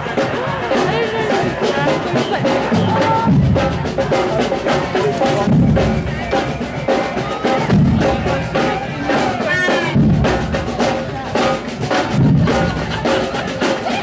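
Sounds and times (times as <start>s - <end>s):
marching drum band: 0.0s - 14.0s.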